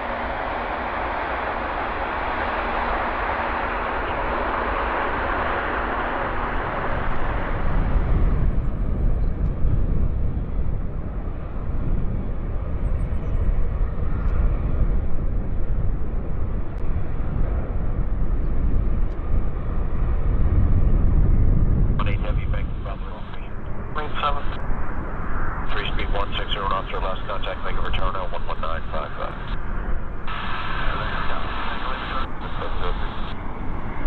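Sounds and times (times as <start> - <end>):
jet airliner roar: 0.0 - 34.0
steady low rumble: 0.0 - 34.0.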